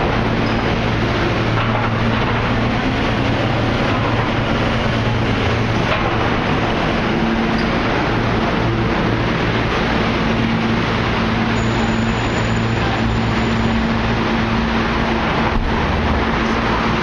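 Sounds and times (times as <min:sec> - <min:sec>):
low machine hum: 0:00.0 - 0:17.0
traffic din: 0:00.0 - 0:17.0.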